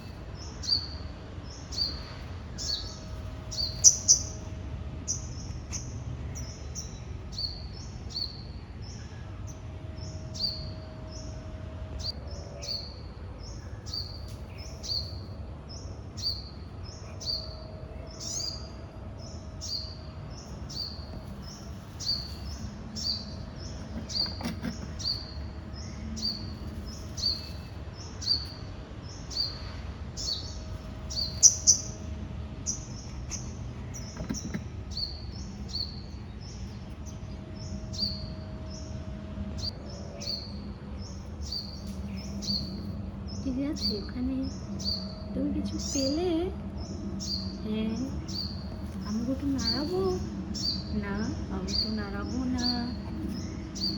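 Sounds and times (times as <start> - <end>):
bird chirping: 0.0 - 53.9
low steady background hum: 0.0 - 53.9.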